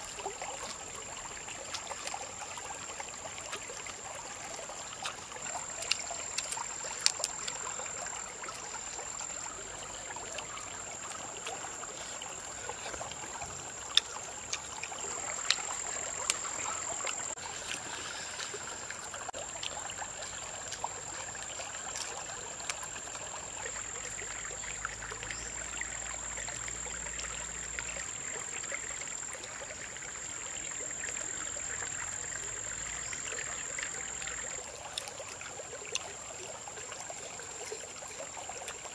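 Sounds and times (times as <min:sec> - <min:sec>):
stream trickling over stones: 0:00.0 - 0:38.9.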